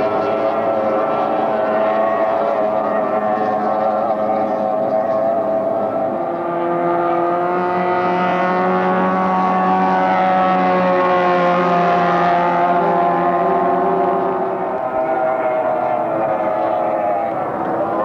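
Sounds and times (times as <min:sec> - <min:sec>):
racing boat engines droning: 0:00.0 - 0:18.0.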